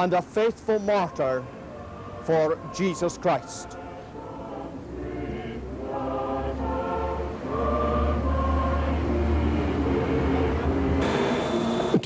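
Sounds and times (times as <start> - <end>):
choir singing held chords: 0.0 - 12.0
steady low hum: 0.4 - 12.0.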